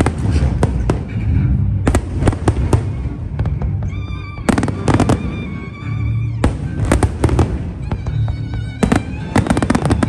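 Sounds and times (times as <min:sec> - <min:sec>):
fireworks bangs and crackles: 0:00.0 - 0:10.0
music soundtrack: 0:00.0 - 0:10.0.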